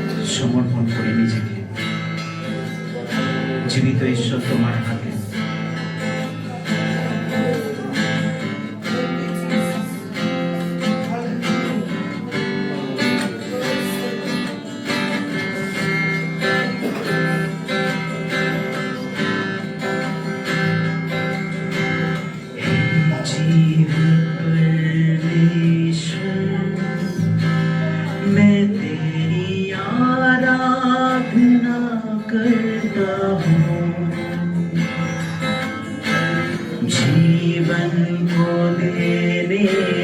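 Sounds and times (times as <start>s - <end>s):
strummed acoustic guitar: 0.0s - 40.0s.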